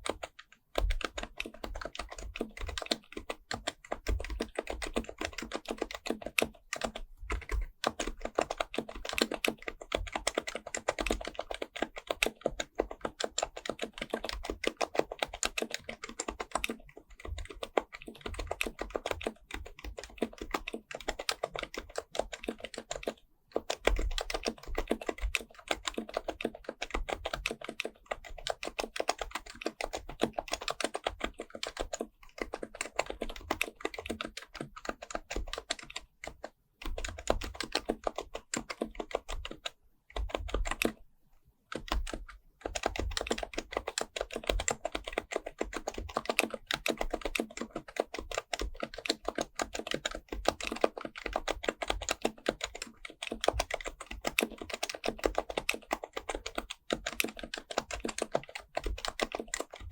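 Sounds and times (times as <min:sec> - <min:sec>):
fast typing on keyboard: 0:00.0 - 0:41.0, 0:41.7 - 0:59.9.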